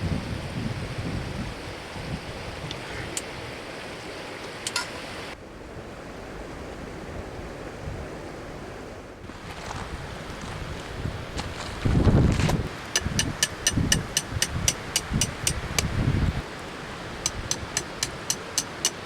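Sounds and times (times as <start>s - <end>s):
wind on microphone: 0.0s - 3.7s, 5.3s - 19.0s
river water flowing: 1.5s - 11.7s, 12.7s - 19.0s.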